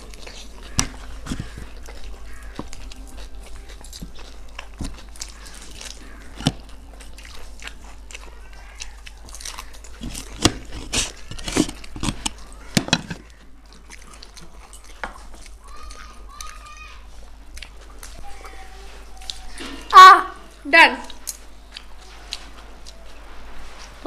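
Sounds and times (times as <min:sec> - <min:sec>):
people chewing crunchy food: 0:00.0 - 0:24.0.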